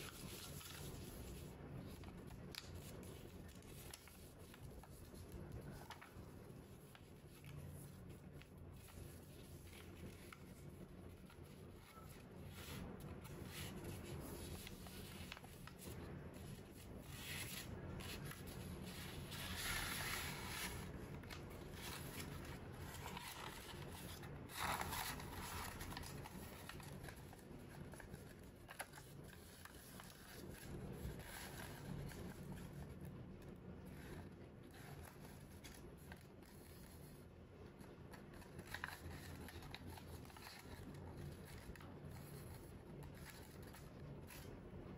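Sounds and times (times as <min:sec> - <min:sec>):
paper rustling and scraping: 0:00.0 - 0:33.1, 0:33.9 - 0:44.6.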